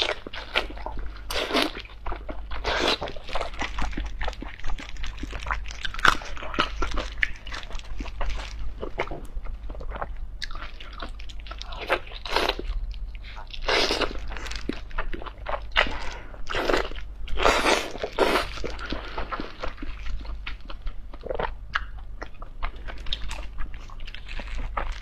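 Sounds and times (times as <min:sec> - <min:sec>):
biting and chewing: 0:00.0 - 0:25.0.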